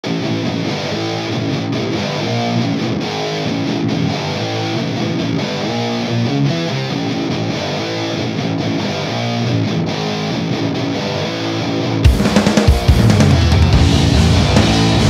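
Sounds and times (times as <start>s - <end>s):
rock music with distorted guitar: 0.0s - 15.0s.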